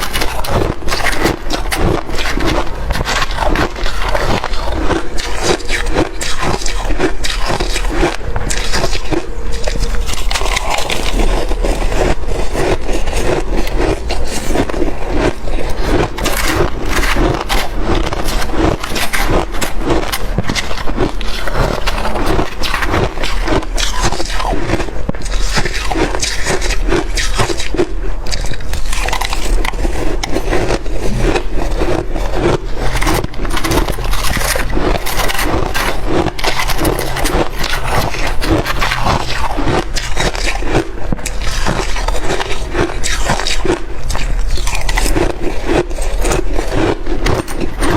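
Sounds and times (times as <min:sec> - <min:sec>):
chewing ice crunching: 0:00.0 - 0:47.9.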